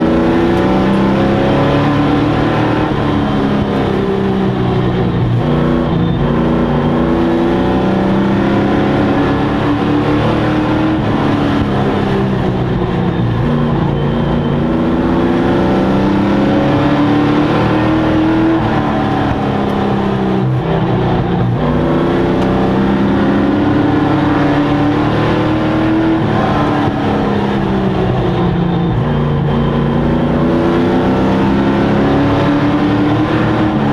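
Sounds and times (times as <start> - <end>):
racing truck engines: 0.0 - 33.9.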